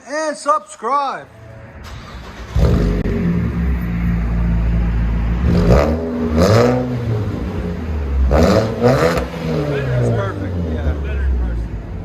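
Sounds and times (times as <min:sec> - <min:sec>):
car engine idling and revving: 0:01.5 - 0:12.0.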